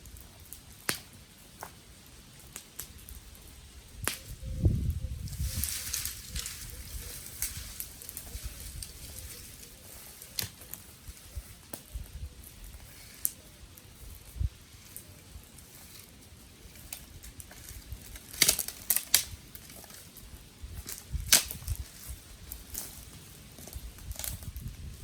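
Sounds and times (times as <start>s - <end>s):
twigs cracking and snapping: 4.0s - 25.0s.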